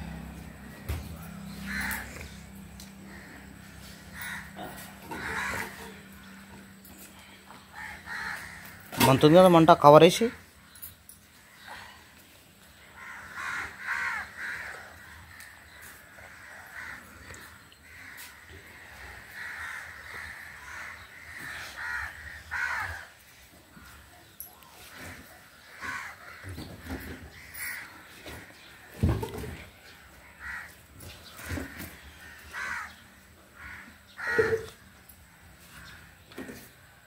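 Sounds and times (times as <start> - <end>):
crows cawing: 0.0 - 36.7.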